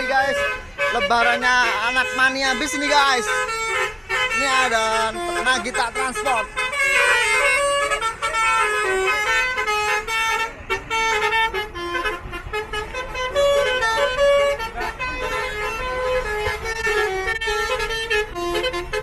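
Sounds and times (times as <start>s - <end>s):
multi-note bus air horns: 0.0s - 19.0s.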